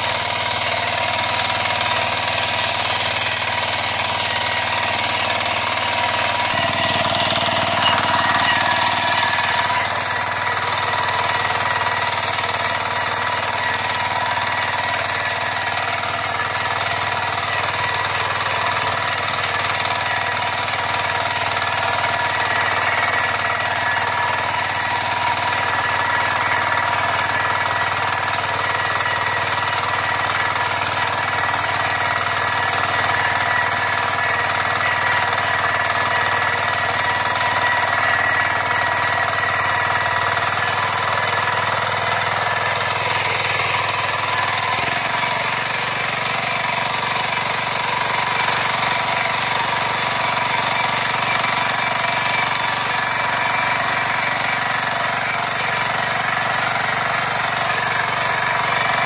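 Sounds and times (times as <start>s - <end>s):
tiller engine running under load: 0.0s - 59.0s.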